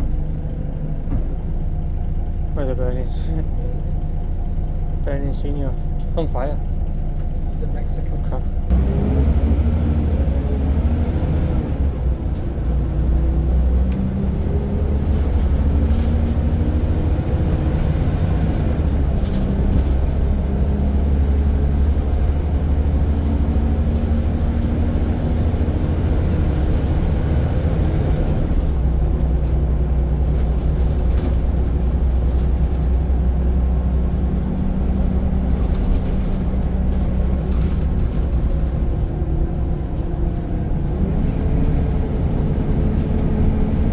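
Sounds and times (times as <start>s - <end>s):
bus engine accelerating: 0.0s - 43.9s.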